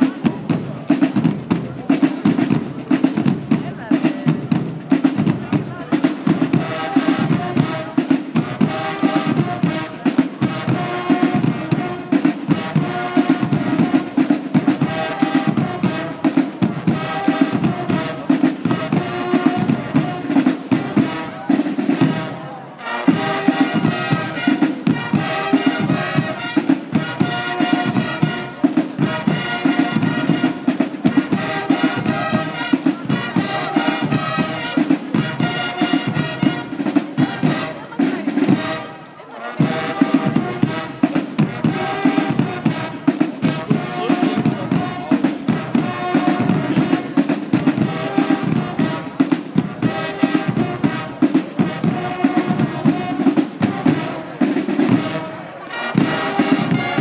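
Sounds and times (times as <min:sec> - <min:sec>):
marching side drums: 0:00.0 - 0:57.0
brass fanfare horns: 0:05.0 - 0:57.0.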